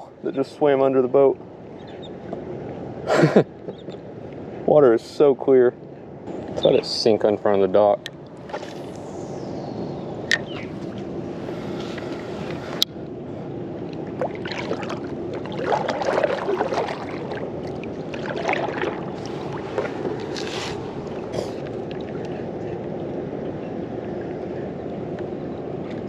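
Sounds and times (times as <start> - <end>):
water lapping against hull: 0.0 - 26.0.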